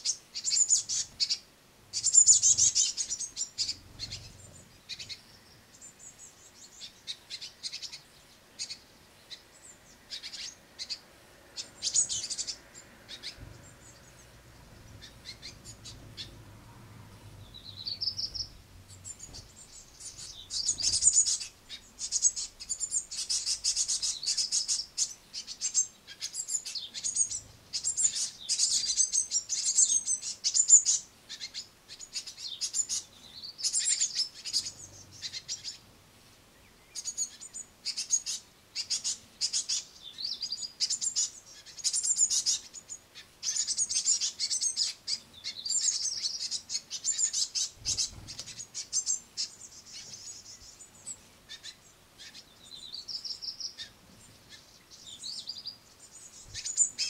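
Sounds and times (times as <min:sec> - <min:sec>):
fledglings chirping: 0:00.0 - 0:35.9, 0:36.6 - 0:57.0.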